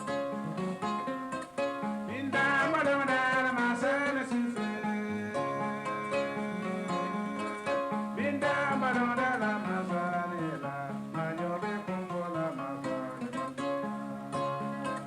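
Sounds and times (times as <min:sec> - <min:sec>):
harp-lute plucked: 0:00.0 - 0:15.0
man singing: 0:02.1 - 0:15.0.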